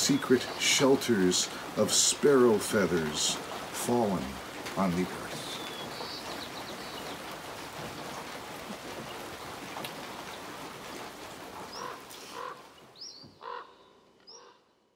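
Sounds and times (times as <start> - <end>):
steady rain hiss: 0.0 - 14.2.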